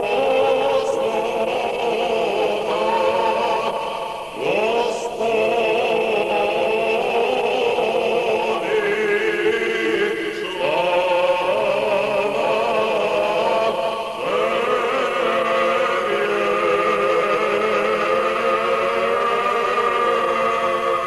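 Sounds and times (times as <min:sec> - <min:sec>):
choir singing a slow chant: 0:00.0 - 0:21.0.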